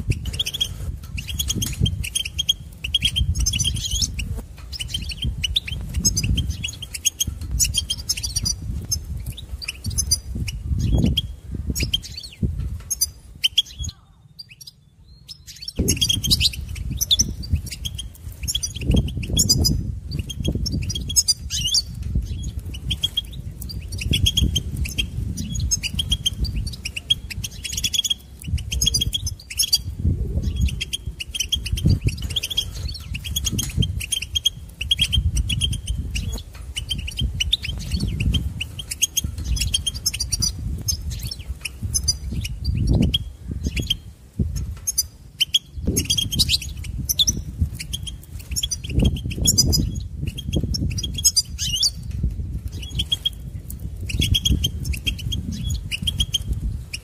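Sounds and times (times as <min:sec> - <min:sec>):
goldfinch twittering and trilling: 0:00.0 - 0:57.0.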